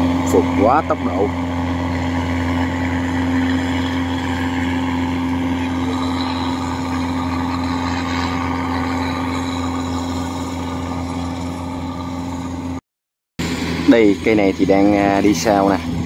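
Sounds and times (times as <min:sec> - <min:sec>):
combine harvester engine drone: 0:00.0 - 0:12.8, 0:13.4 - 0:16.0.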